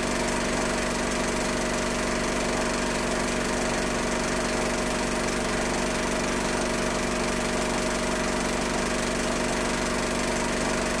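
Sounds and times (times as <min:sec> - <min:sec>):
film projector motor hum: 0:00.0 - 0:11.0.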